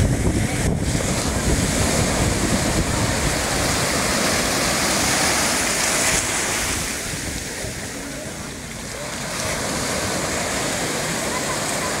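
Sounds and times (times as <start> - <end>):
small waves breaking: 0.3 - 12.0.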